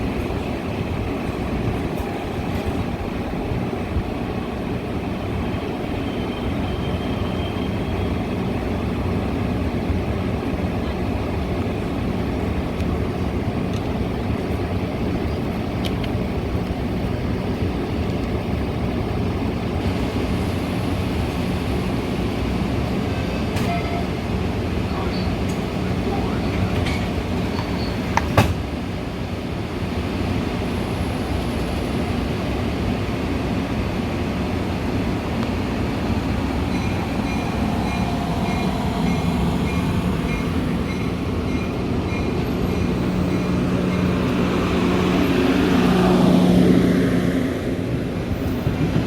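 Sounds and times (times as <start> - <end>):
train rumbling: 0.0 - 49.0.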